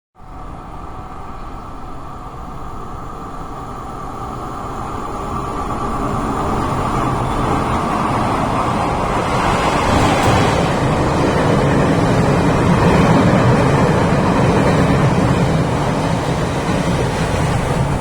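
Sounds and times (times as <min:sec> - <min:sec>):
train wheels rumbling on rail: 0:00.2 - 0:18.0.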